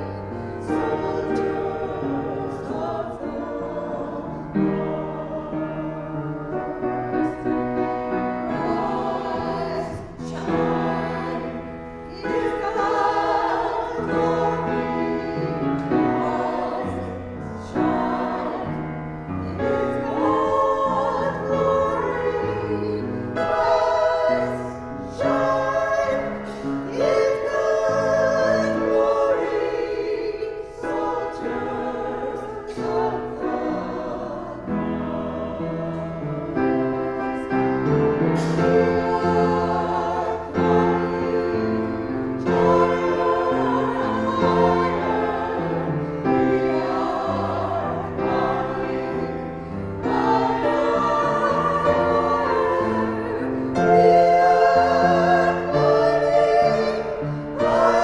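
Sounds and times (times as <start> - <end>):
sustained keyboard accompaniment: 0.0 - 58.0
two singers in duet: 0.0 - 58.0.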